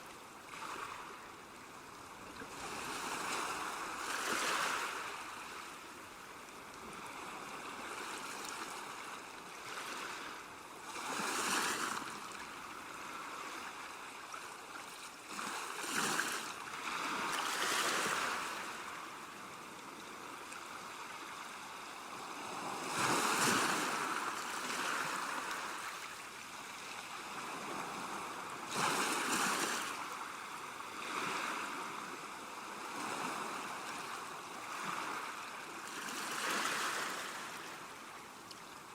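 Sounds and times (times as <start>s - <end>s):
surf washing on shore: 0.4s - 38.9s.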